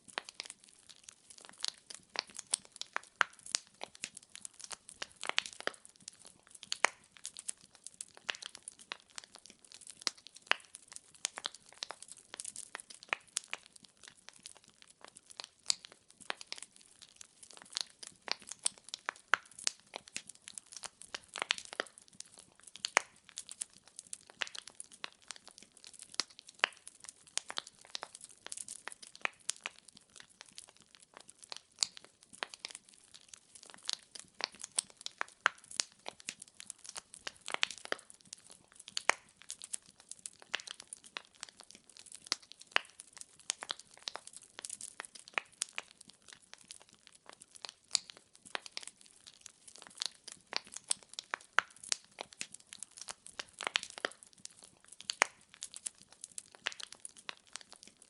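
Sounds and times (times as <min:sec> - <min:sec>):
firewood crackling: 0:00.0 - 0:58.0.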